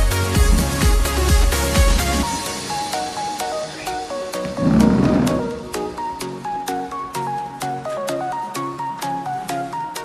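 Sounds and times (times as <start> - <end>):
electronic dance music: 0.0 - 9.8.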